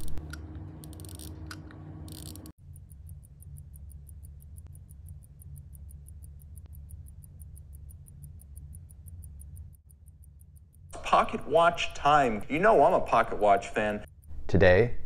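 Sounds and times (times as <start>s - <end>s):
pocket watch ticking: 0.0s - 1.3s, 2.1s - 14.4s
low steady hum: 0.0s - 15.0s.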